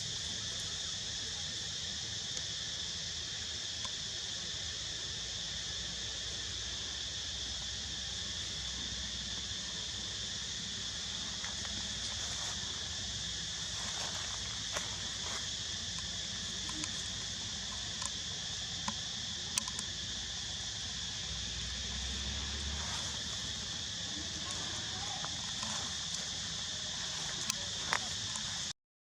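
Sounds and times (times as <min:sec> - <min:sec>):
high-pitched insect chorus: 0:00.0 - 0:28.8.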